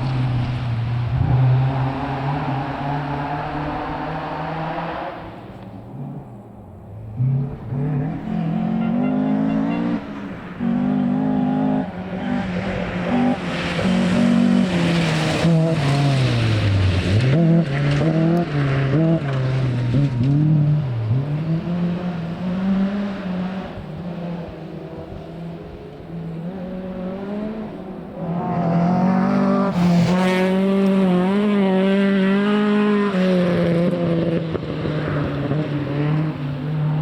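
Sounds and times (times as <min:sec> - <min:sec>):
rally car engine accelerating: 0:00.0 - 0:37.0.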